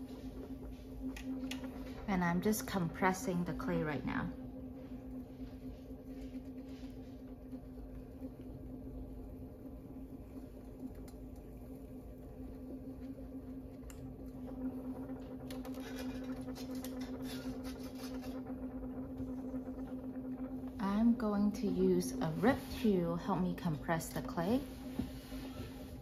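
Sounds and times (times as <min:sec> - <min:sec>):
pottery wheel humming: 0:00.0 - 0:26.0.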